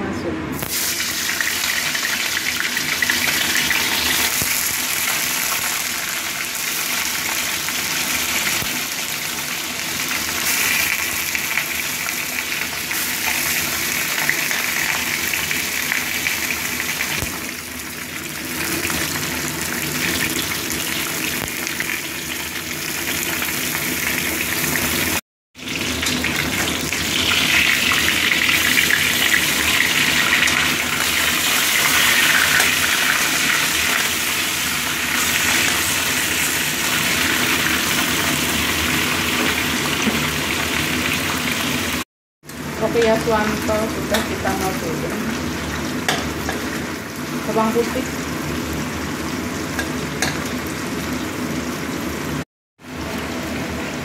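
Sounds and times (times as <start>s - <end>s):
fish frying in hot oil: 0.7s - 54.0s.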